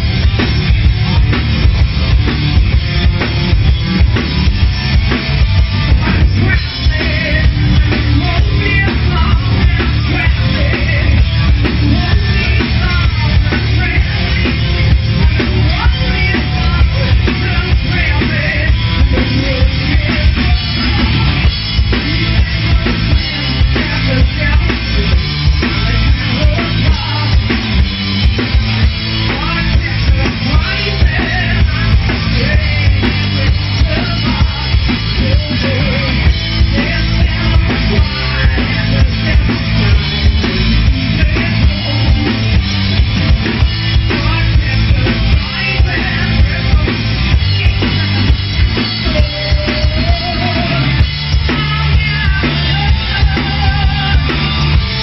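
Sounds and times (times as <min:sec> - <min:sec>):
distorted electric guitar: 0:00.0 - 0:55.0
drum kit beat: 0:00.0 - 0:55.0
electric bass: 0:00.0 - 0:55.0.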